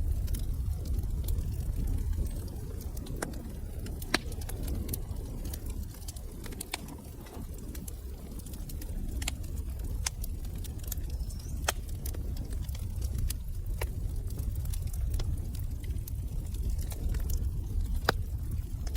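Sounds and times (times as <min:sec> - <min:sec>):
low rumble of flames: 0:00.0 - 0:18.9
wood fire crackling: 0:00.0 - 0:18.9.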